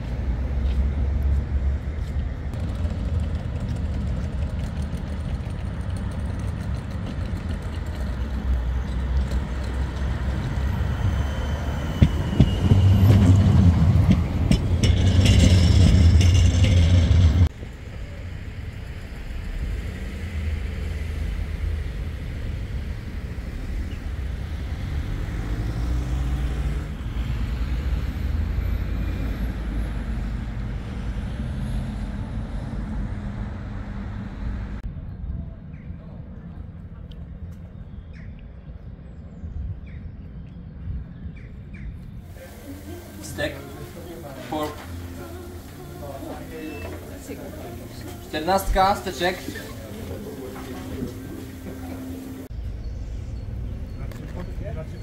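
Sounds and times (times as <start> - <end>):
road vehicles rumbling: 0.0 - 55.0.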